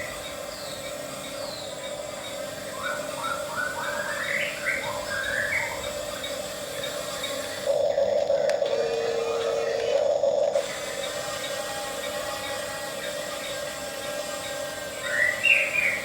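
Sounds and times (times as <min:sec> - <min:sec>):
electric motors whining: 0:00.0 - 0:16.0
short rising motor whines: 0:02.7 - 0:16.0.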